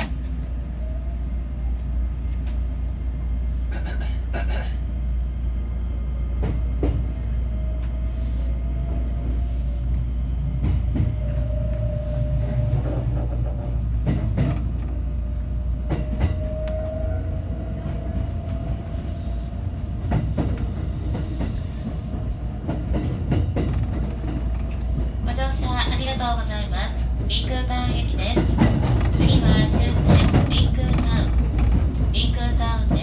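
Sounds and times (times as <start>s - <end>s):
train low rumble: 0.0s - 33.0s.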